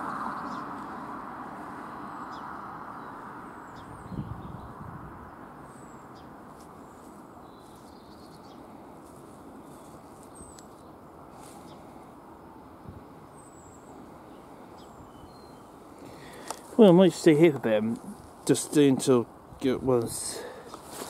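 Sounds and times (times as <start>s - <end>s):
small birds chirping: 0.0s - 21.0s
steady outdoor rumble: 0.0s - 21.0s.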